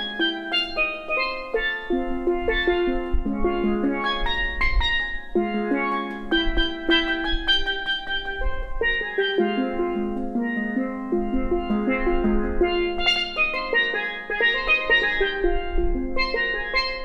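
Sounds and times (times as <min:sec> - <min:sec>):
steel pan melody: 0:00.0 - 0:17.0.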